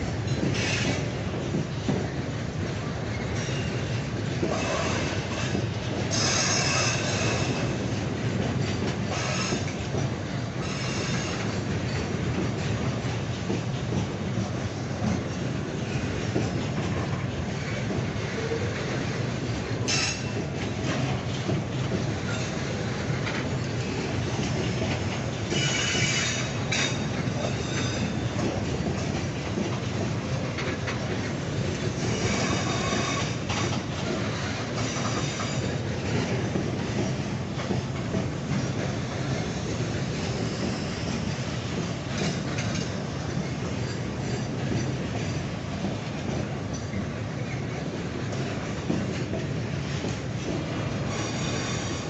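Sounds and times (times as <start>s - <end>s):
train wheels rumbling and rattling: 0.0s - 52.0s.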